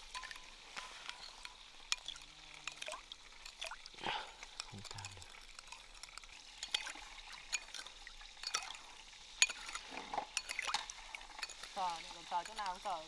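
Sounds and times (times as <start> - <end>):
spoon clinking against bowl: 0.0 - 13.0.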